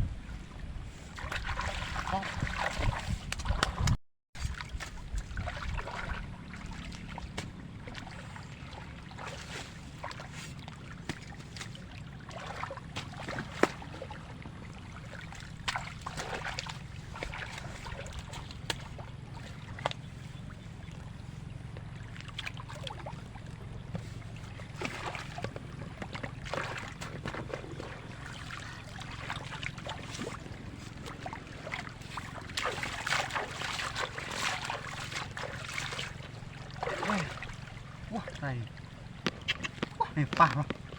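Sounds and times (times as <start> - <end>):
steady low rumble: 0.0 - 40.9
water splashing and sloshing: 0.0 - 40.9.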